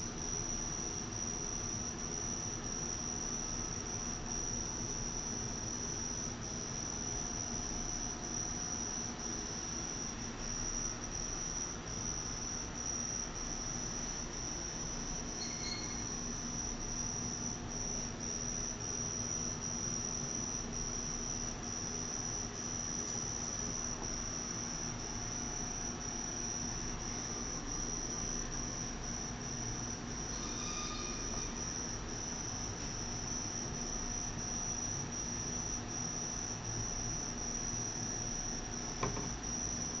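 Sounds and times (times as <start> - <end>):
high-pitched insect trill: 0.0 - 40.0.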